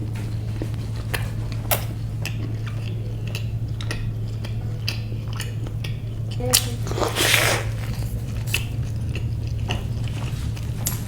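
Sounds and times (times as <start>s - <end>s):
crunchy chewing: 0.0s - 11.0s
steady low hum: 0.0s - 11.0s.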